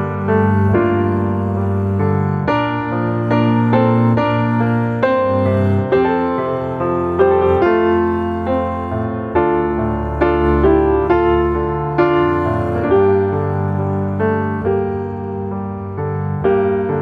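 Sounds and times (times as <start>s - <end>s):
slow gentle piano: 0.0s - 17.0s.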